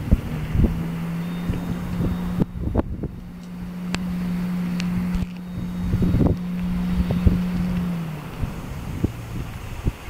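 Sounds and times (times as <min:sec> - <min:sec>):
boat motor idling: 0:00.0 - 0:10.0
wind buffeting microphone: 0:00.0 - 0:10.0.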